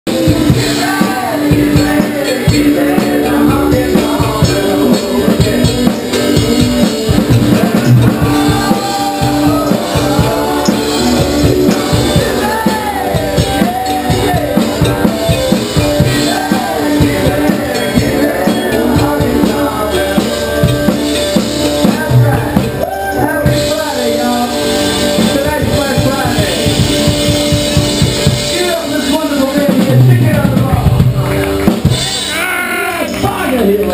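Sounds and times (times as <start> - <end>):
drum kit: 0.0 - 33.9
keyboard: 0.0 - 33.9
man singing: 0.1 - 27.2, 28.2 - 31.1
guitar: 0.1 - 33.9.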